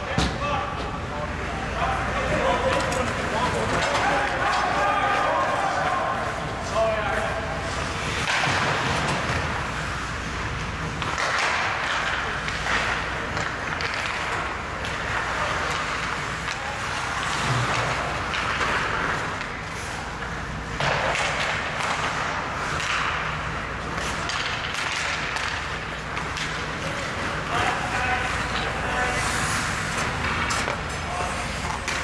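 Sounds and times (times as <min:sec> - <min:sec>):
hockey sticks and puck clacking: 0:01.9 - 0:32.0
skate blades scraping ice: 0:02.2 - 0:32.0.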